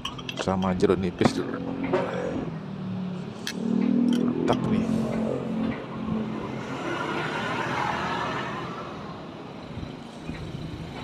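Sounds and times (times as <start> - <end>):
vehicle passing: 1.3 - 11.0.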